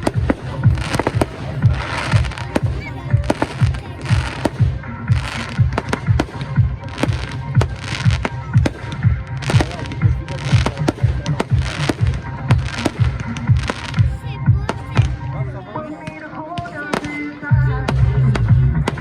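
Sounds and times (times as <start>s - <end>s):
fireworks bursting and crackling: 0.0s - 19.0s
music with steady beat: 0.0s - 19.0s.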